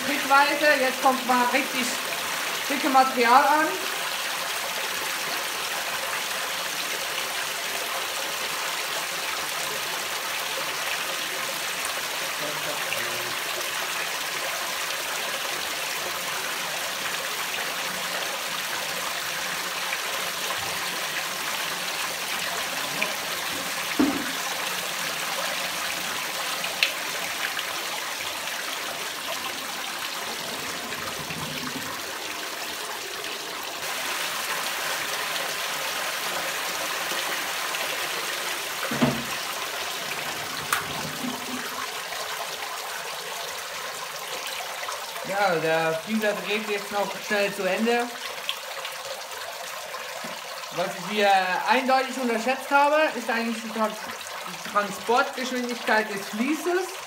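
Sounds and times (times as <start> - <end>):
water pouring through filter: 3.9 - 57.0.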